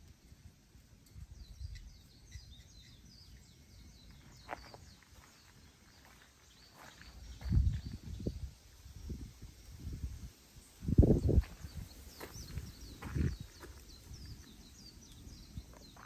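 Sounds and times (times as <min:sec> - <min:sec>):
small birds twittering: 0:01.0 - 0:16.0.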